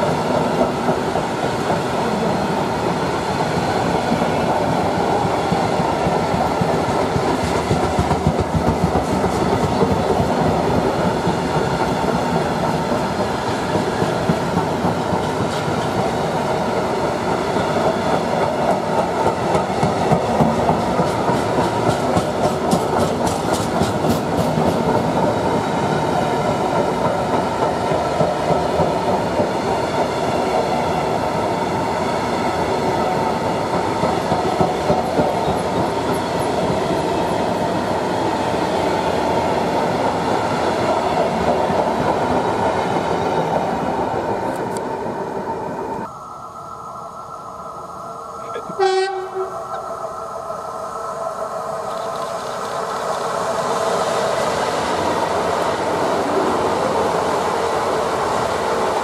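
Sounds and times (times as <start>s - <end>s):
train wheels rumbling on track: 0.0s - 46.1s, 48.4s - 59.0s.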